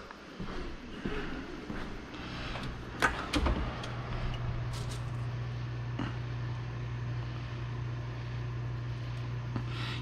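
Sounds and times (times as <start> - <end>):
appliance humming: 0.0 - 10.0.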